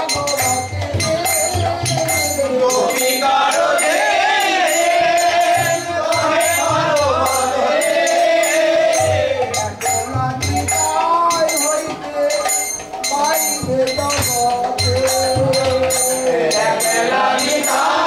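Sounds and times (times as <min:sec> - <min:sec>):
jingling percussion: 0:00.0 - 0:18.0
person singing wavering melody: 0:00.0 - 0:18.0.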